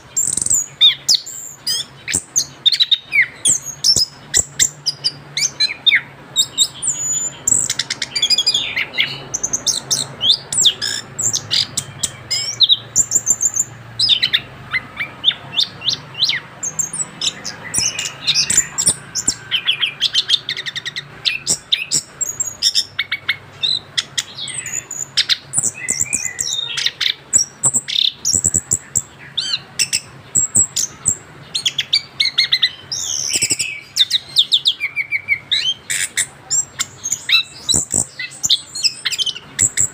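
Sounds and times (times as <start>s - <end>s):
thrush singing: 0.0s - 39.9s.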